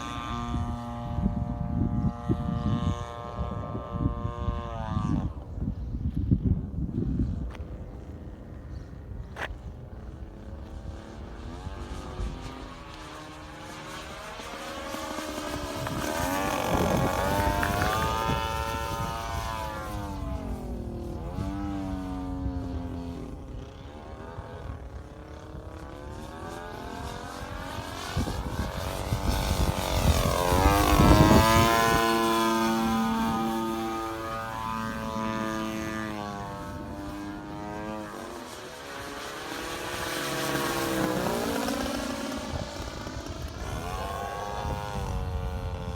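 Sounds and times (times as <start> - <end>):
model plane engine in flight: 0.0 - 45.9.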